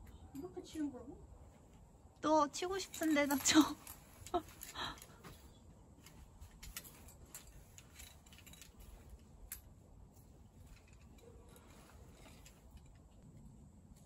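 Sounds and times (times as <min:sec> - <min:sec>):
climbing gear clinking: 0:02.6 - 0:14.0.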